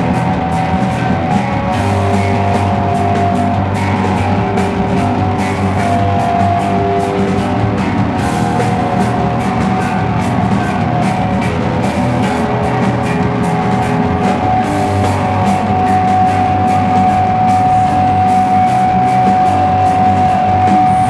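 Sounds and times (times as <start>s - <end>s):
held high guitar note: 0.0s - 21.0s
rock band playing live: 0.0s - 21.0s.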